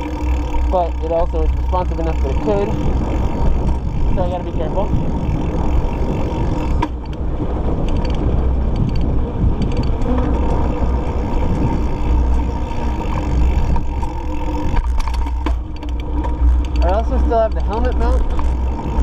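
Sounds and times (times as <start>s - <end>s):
bike clicks and rattles: 0.0s - 19.0s
bike tyre noise: 0.0s - 19.0s
wind buffeting microphone: 0.0s - 19.0s.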